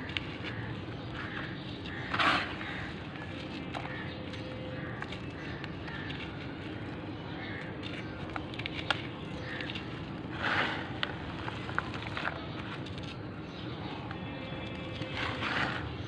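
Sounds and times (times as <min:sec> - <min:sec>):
charcoal lumps crunching: 0:00.0 - 0:16.0.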